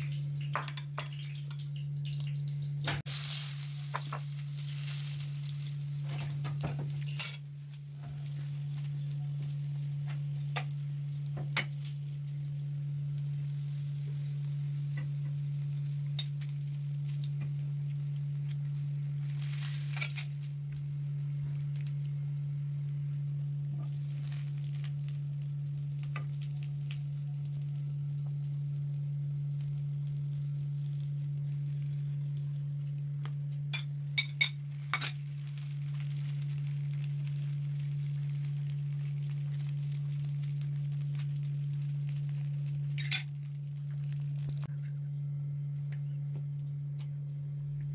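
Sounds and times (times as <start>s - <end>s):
low hum: 0.0s - 47.9s
potatoes sizzling in pan: 3.0s - 44.7s.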